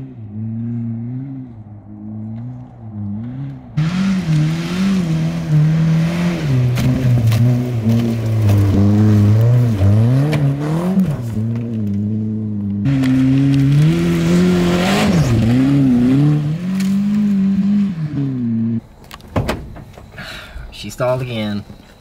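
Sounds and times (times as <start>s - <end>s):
car engine revving: 0.0s - 18.8s
dirt spraying and tyre noise: 0.0s - 22.0s.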